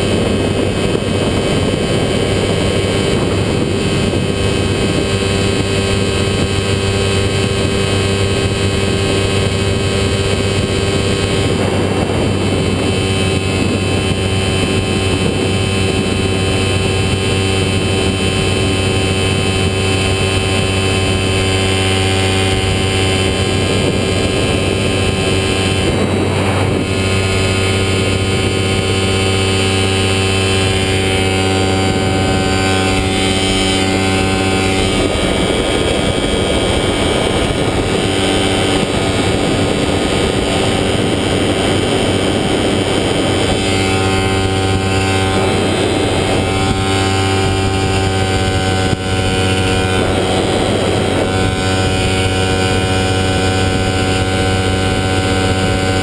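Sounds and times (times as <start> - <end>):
light aircraft engine droning: 0.0 - 56.0
wind rushing on microphone: 0.0 - 56.0.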